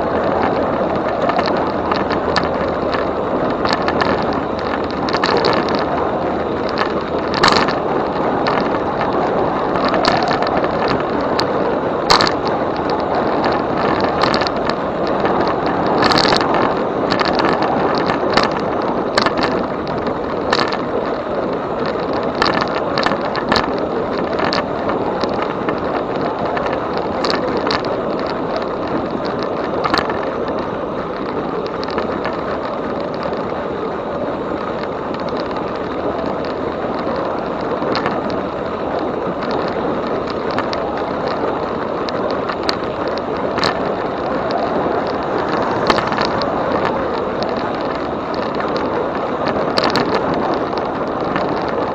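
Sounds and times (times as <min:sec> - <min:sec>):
tyre and wind noise: 0:00.0 - 0:51.9
sharp clicks and knocks: 0:00.1 - 0:33.6, 0:34.6 - 0:51.9.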